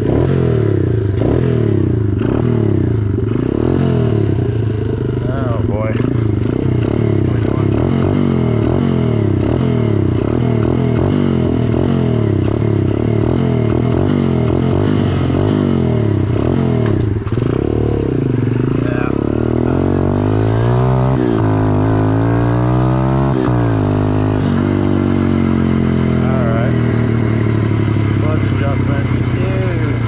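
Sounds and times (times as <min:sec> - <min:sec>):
motorbike engine revving: 0:00.0 - 0:30.0.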